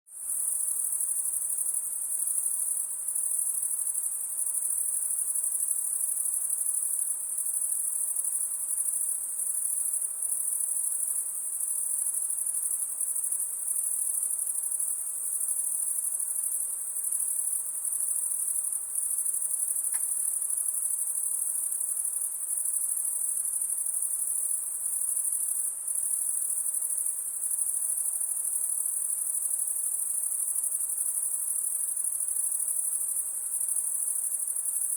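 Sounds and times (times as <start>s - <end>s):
crickets chirping: 0.2s - 34.9s.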